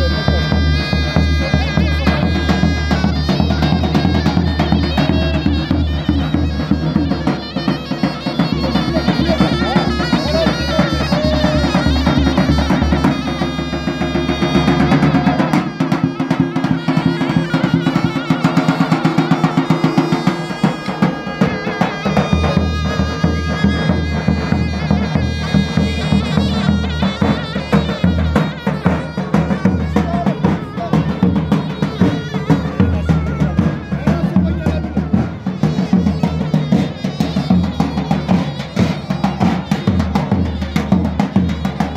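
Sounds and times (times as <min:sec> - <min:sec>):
reedy wind instrument melody: 0:00.0 - 0:41.9.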